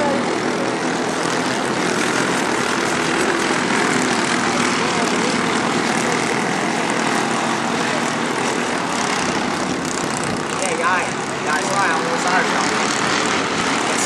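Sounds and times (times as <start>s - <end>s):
kart engine running: 0.0s - 14.0s.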